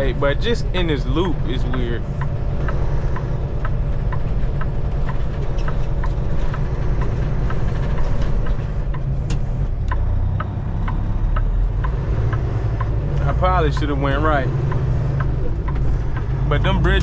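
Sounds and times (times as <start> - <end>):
diesel truck engine running: 0.0 - 17.0
turn signal ticking: 0.0 - 17.0.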